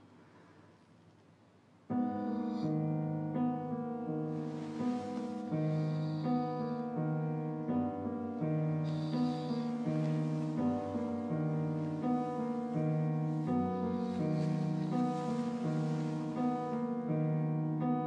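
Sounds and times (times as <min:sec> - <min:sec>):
gentle piano music: 0:01.8 - 0:18.0.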